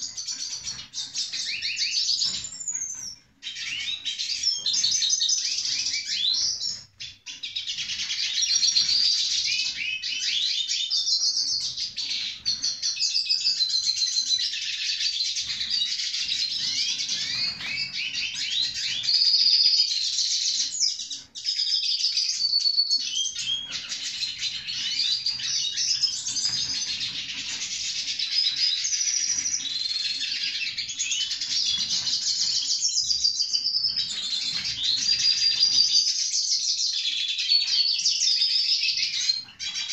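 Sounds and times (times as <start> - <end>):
bird twittering song with trills: 0.0 - 39.9.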